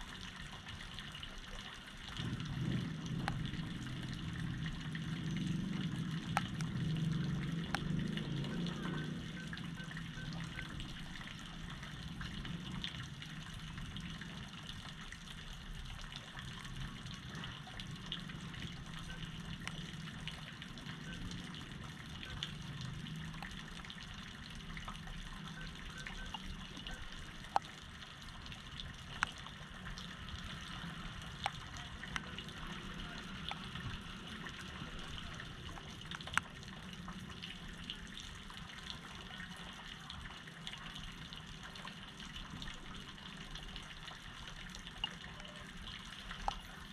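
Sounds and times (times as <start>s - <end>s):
floodwater running and splashing: 0.0s - 46.9s
sharp drip-like ticks: 0.0s - 46.9s.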